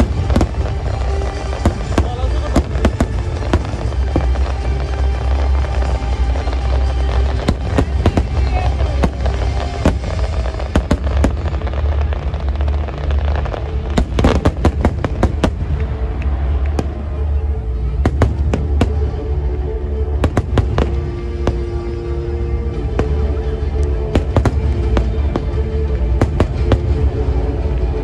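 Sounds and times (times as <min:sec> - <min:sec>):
fireworks bangs and crackles: 0:00.0 - 0:28.0
music: 0:00.0 - 0:28.0.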